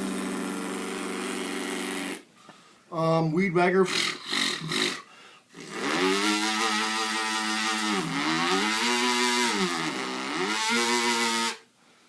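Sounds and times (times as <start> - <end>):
man imitating string trimmer: 0.0 - 2.2, 3.0 - 11.6.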